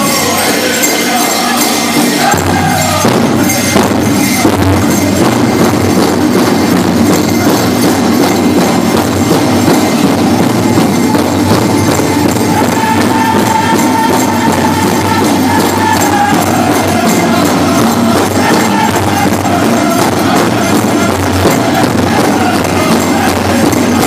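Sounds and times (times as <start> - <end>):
big drum beating: 0.0 - 24.0
jingling bells: 0.0 - 24.0
people singing: 0.0 - 24.0.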